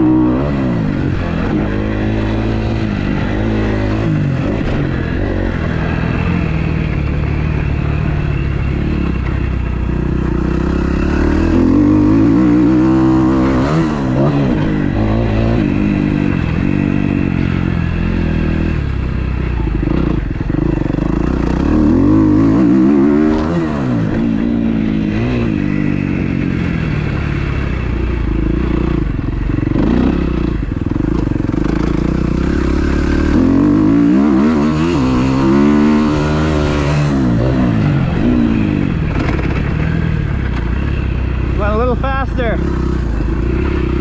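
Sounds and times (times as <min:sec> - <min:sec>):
motorbike engine revving: 0:00.0 - 0:44.0.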